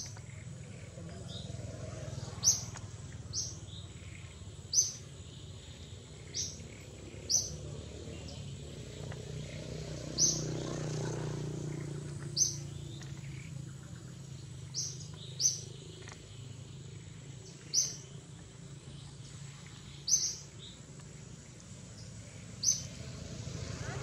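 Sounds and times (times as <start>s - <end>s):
bird chirping: 0.0s - 23.7s.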